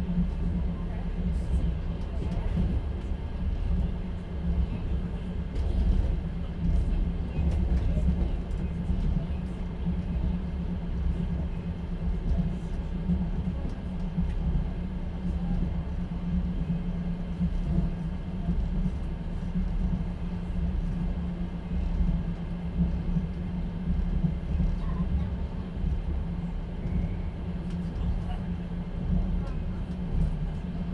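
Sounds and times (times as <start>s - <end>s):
moving train rumble: 0.0s - 30.9s.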